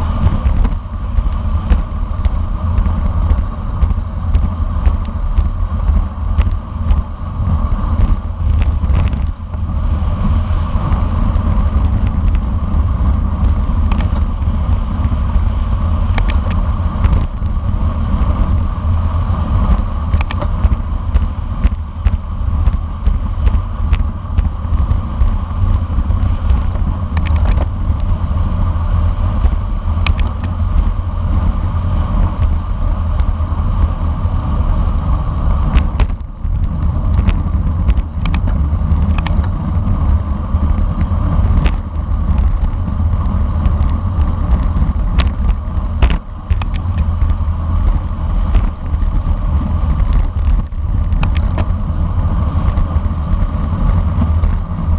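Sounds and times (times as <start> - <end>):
bike clicks and knocks: 0.0 - 7.2, 7.9 - 18.7, 19.5 - 28.3, 29.0 - 31.4, 35.6 - 54.9
road noise rumble: 0.0 - 54.9
wind buffeting microphone: 0.0 - 54.9.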